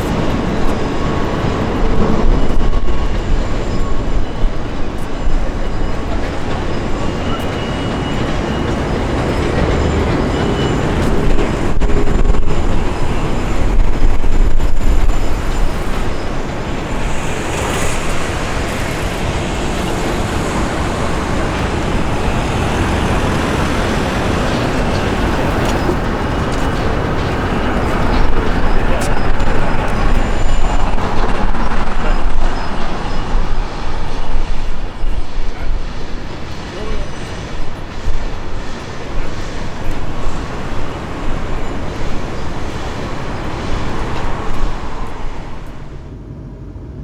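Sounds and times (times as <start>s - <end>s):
city traffic: 0.0s - 47.0s
electric train crossing a bridge: 0.0s - 47.0s.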